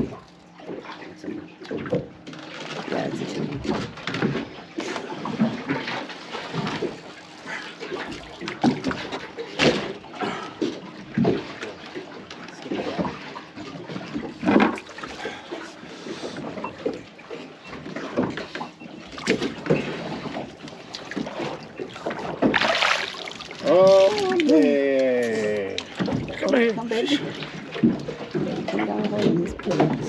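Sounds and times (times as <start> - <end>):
water splashing against boat hull: 0.0 - 30.0.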